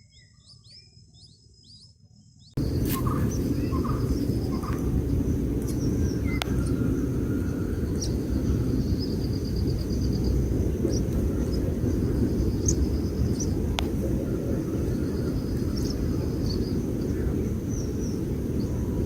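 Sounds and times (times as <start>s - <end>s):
small birds chirping: 0.0s - 19.0s
low outdoor rumble: 2.6s - 19.0s.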